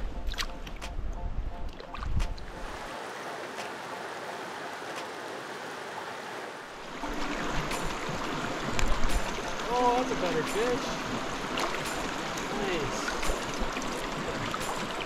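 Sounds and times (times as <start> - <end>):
mountain stream rushing: 2.4 - 15.0.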